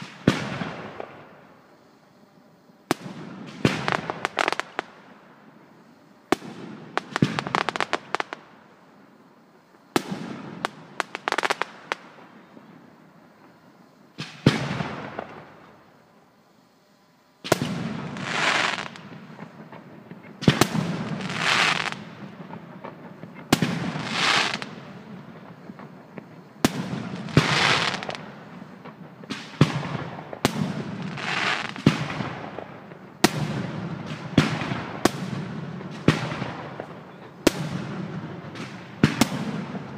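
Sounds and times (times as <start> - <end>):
fireworks bursting with bangs: 0.0 - 16.3, 17.3 - 39.9
fireworks hissing crackle: 0.0 - 39.9.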